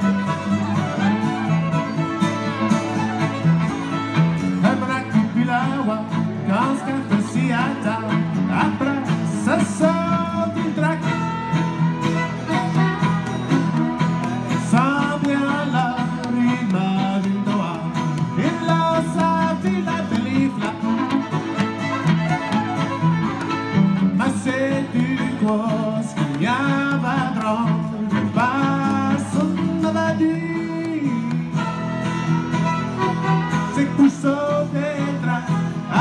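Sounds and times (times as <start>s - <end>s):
fiddles playing: 0.0s - 25.7s, 26.4s - 36.0s
strummed acoustic guitar: 0.0s - 36.0s.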